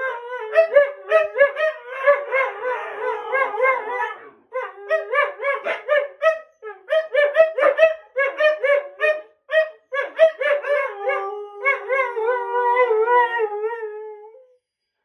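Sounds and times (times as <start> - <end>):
dogs howling: 0.0 - 9.2, 10.0 - 14.4
dogs yipping and yelping: 0.0 - 12.8.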